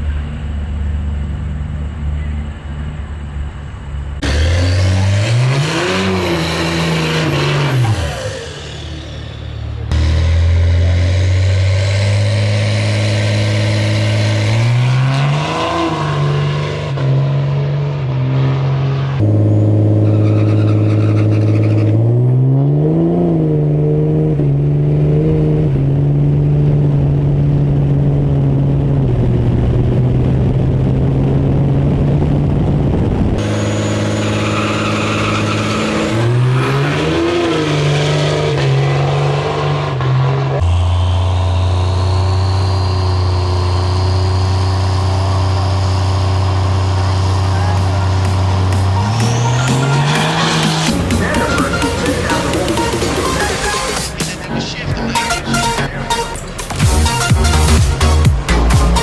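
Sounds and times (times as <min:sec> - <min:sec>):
diesel truck engines revving: 0:00.0 - 0:59.0.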